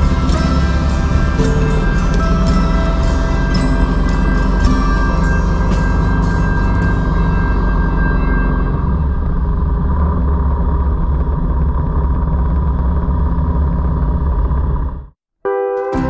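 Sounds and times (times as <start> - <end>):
motor vehicle rumble: 0.0 - 15.2.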